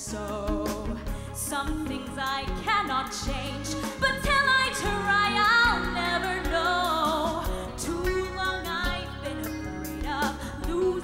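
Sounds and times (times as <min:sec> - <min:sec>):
instrumental accompaniment: 0:00.0 - 0:11.0
woman singing into a microphone: 0:00.0 - 0:11.0.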